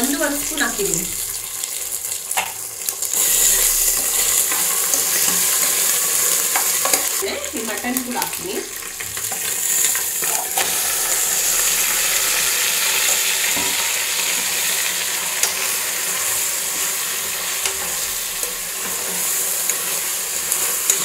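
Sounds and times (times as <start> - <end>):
meat sizzling in hot oil: 0.0 - 21.0.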